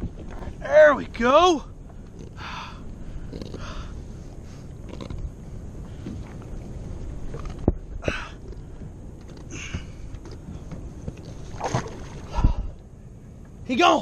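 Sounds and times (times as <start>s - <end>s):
wind rumbling on microphone: 0.0s - 13.7s.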